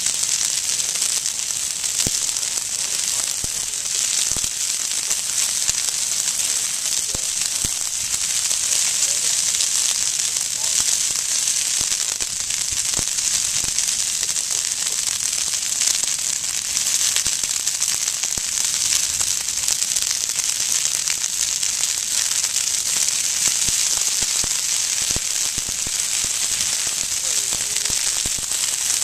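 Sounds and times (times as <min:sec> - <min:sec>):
brush fire crackling and popping: 0:00.0 - 0:29.0.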